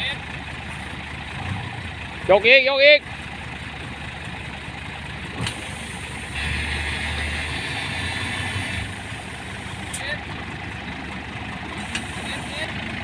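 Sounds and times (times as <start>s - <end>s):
heavy vehicle engine revving: 0.0s - 13.0s.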